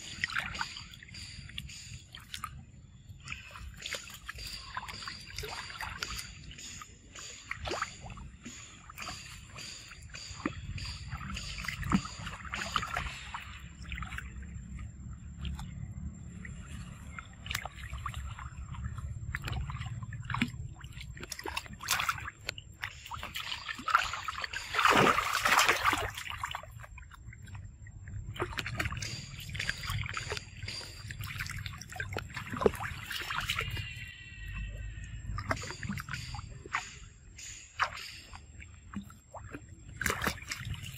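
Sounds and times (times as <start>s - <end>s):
steady low rumble: 0.0s - 40.9s
water sloshing and splashing: 0.0s - 40.9s.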